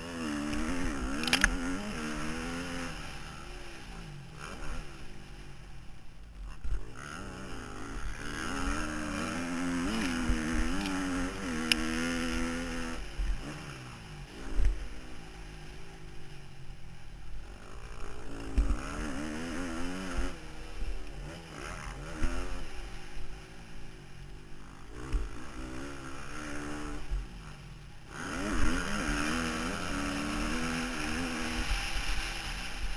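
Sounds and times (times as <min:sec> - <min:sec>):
motocross engine revving: 0:00.0 - 0:32.9.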